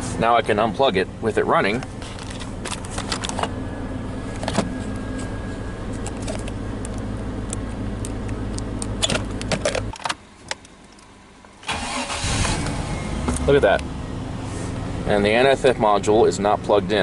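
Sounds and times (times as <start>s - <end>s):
car engine idling: 0.0s - 9.9s, 11.7s - 17.0s.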